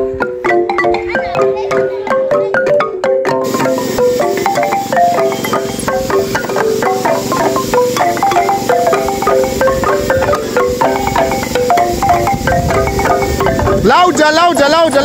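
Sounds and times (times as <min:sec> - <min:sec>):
marimba music: 0:00.0 - 0:15.0.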